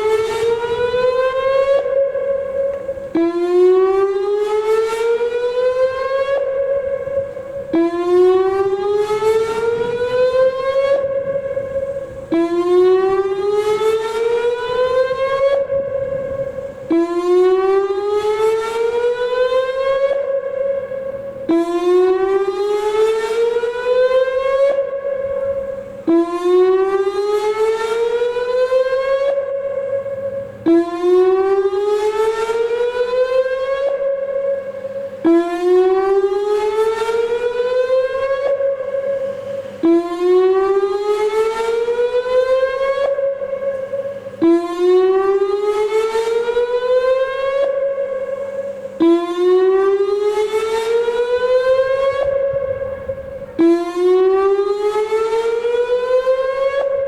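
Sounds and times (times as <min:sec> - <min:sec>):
electronic warning siren whooping: 0:00.0 - 0:57.0.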